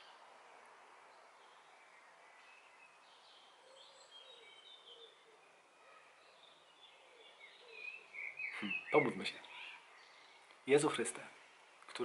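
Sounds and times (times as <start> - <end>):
distant birds chirping: 0.0 - 12.0
faint background hiss: 0.0 - 12.0.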